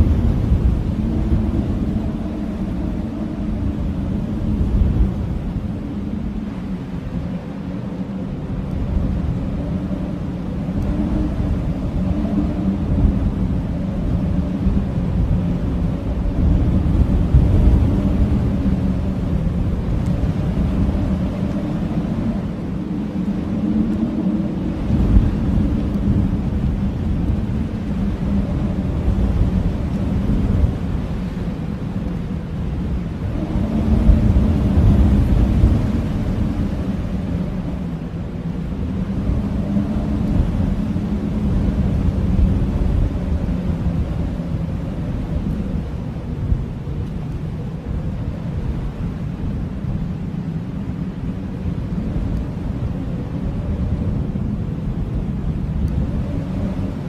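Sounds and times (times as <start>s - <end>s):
wind howling: 0.0s - 57.0s.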